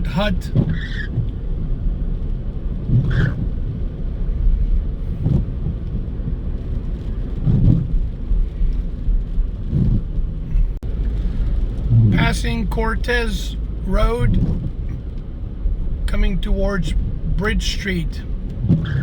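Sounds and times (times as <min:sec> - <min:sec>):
car interior road and engine rumble: 0:00.0 - 0:19.0.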